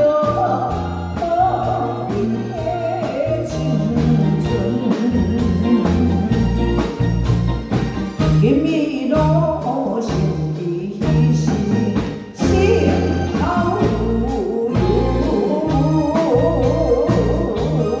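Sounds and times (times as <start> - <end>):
woman singing into a microphone: 0.0 - 7.1, 8.4 - 18.0
bass guitar: 0.0 - 18.0
drum kit beat: 0.0 - 18.0
keyboard: 0.0 - 18.0.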